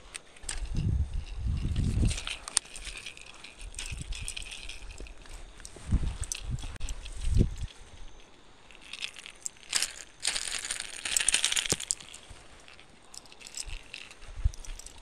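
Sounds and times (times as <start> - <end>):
dry branches crackling and rustling: 0.0 - 15.0.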